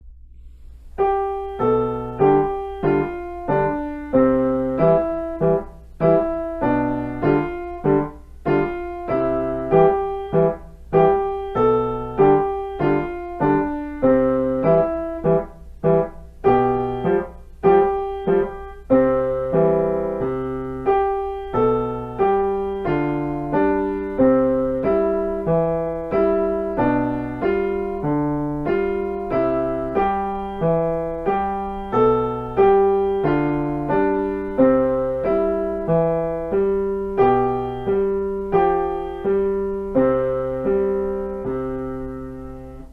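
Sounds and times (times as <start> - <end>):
piano playing variations: 0.0 - 42.9.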